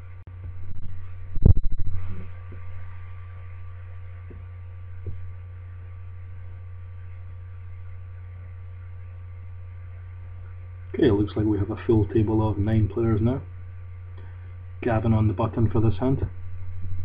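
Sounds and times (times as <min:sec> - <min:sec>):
electrical mains hum: 0:00.0 - 0:17.0
loud low buzz: 0:00.0 - 0:17.0.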